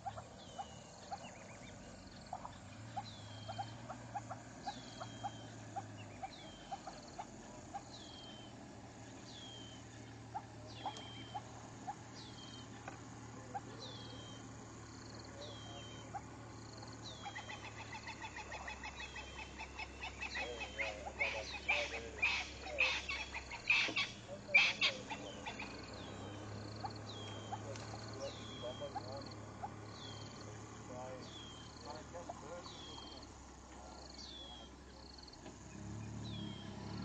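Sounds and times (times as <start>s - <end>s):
birds chattering calls: 0.0s - 37.0s.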